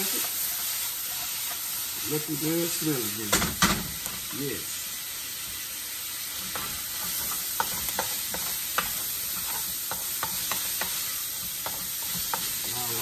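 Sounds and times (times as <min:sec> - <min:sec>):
stir fry sizzling in a wok: 0:00.0 - 0:13.0.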